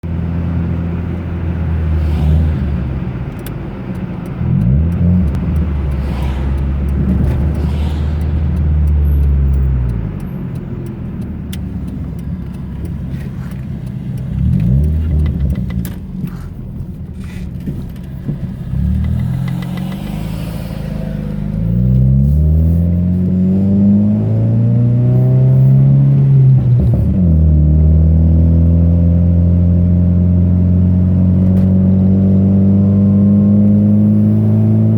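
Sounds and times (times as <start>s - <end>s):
car rattling over bumps: 0.0s - 28.3s
car engine accelerating and shifting: 0.0s - 34.9s.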